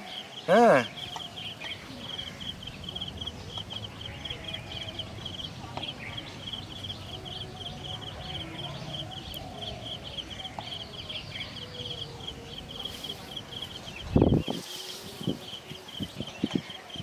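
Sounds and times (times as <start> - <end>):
rhythmic high-pitched chirping: 0.0 - 17.0.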